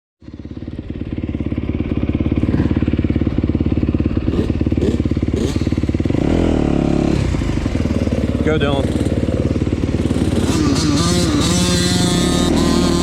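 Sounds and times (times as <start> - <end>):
vehicle engine idling: 0.3 - 12.5.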